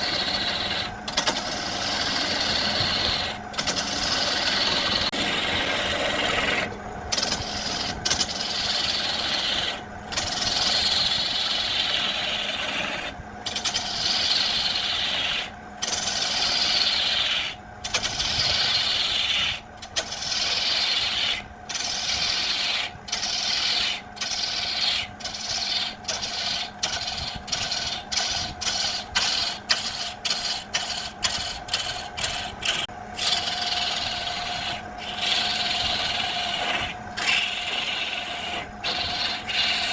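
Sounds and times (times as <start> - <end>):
tool scraping against wood: 0.0 - 39.9.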